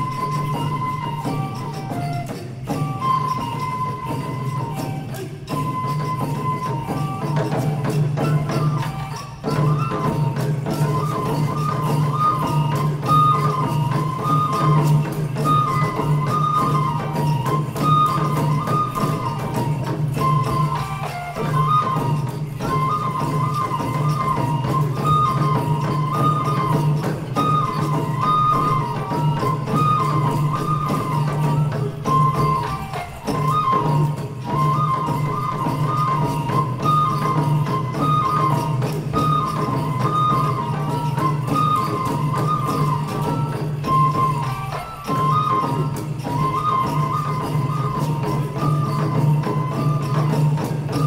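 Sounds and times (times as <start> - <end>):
flute melody: 0.0 - 51.0
taiko drums beating: 0.0 - 51.0.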